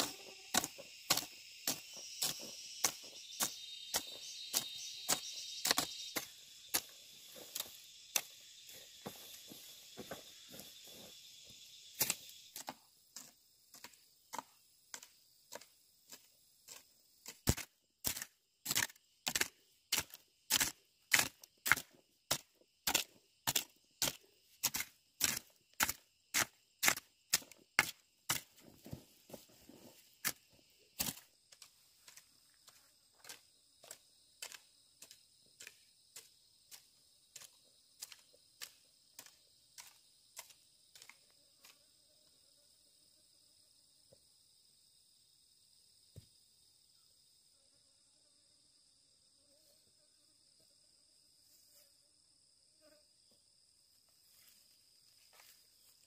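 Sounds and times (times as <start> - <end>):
high insect chorus: 0.0 - 56.0.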